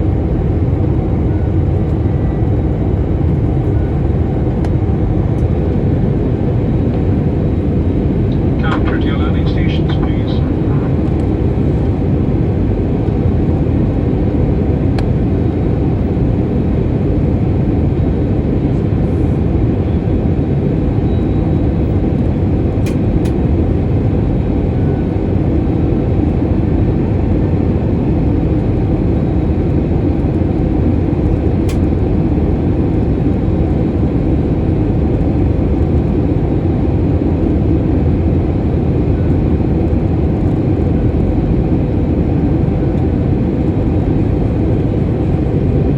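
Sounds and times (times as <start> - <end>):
airliner engine drone in cabin: 0.0 - 45.9.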